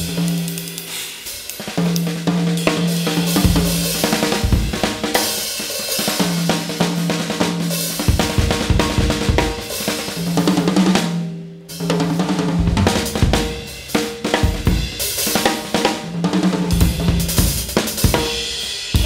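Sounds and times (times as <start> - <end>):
drum kit played hard: 0.0 - 19.0.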